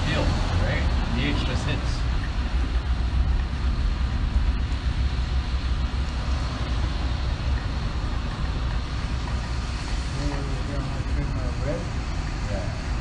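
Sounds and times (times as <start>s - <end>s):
rain hiss: 0.0s - 13.0s
wind rumble: 0.0s - 13.0s.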